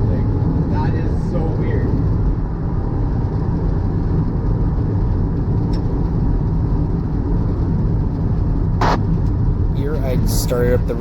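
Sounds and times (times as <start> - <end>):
car interior engine rumble: 0.0 - 11.0.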